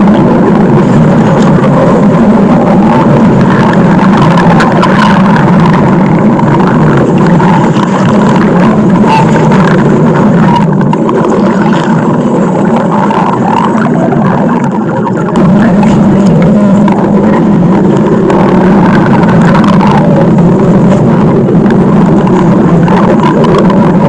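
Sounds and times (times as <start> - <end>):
stomach growling: 0.0 - 24.0.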